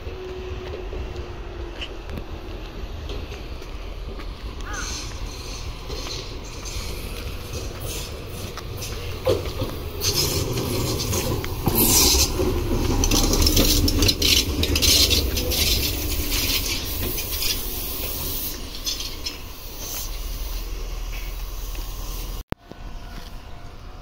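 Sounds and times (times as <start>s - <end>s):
train wheels rumbling on rail: 0.0s - 24.0s
wheels scraping on rail: 0.0s - 24.0s.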